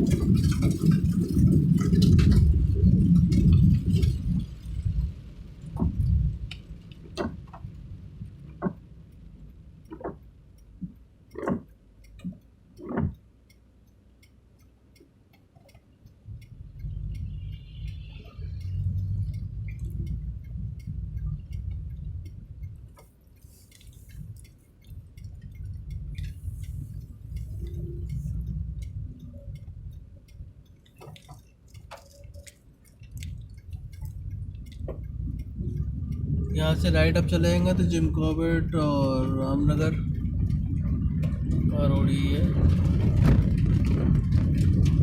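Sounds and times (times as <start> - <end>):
low road rumble: 0.0 - 45.0
turn signal ticking: 0.0 - 45.0.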